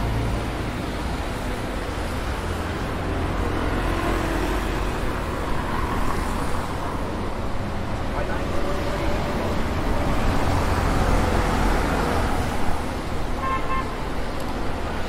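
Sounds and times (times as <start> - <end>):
cars on wet road: 0.0 - 15.0.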